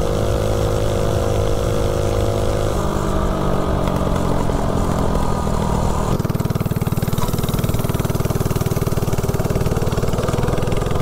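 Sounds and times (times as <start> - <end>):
minibike engine slowing to idle: 0.0 - 11.0.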